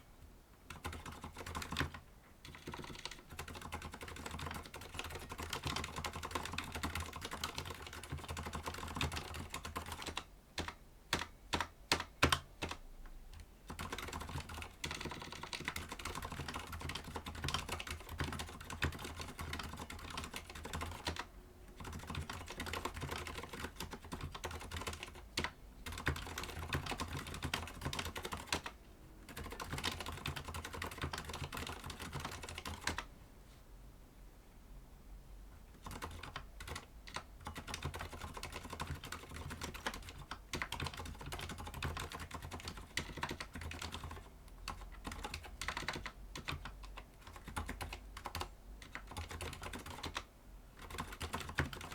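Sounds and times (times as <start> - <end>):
mechanical keyboard typing: 0.7 - 33.1, 35.7 - 51.9.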